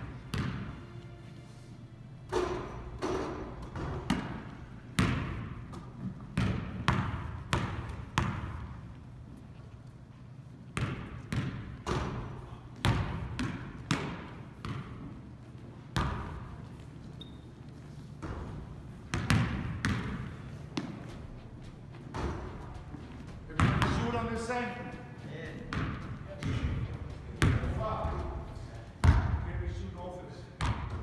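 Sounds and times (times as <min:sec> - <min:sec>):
basketballs bouncing on hardwood floor: 0:00.1 - 0:00.8, 0:02.3 - 0:09.4, 0:10.7 - 0:17.4, 0:18.2 - 0:21.4, 0:22.0 - 0:29.5, 0:30.6 - 0:31.0.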